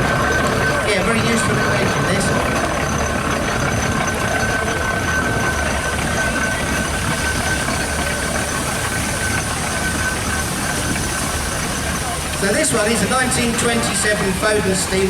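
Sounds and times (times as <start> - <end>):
constant high tone: 0.0 - 15.0
steam engine rumble and hiss: 0.0 - 15.0.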